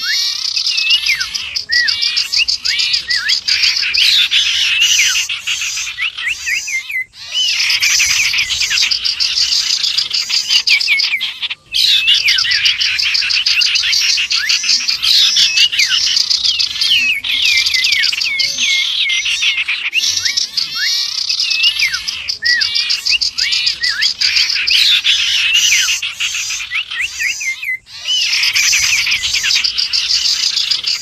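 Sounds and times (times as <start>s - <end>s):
songbirds chirping and whistling: 0.0s - 31.0s.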